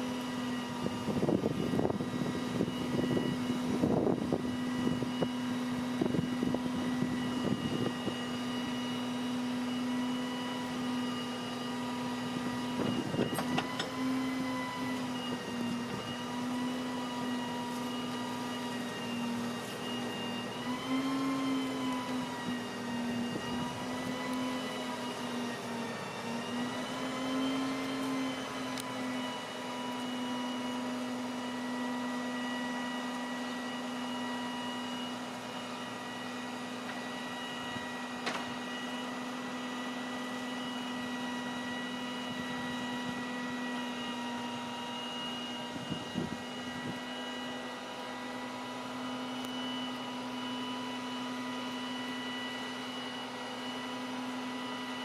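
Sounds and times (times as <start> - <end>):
garbage truck whining: 0.0 - 55.0.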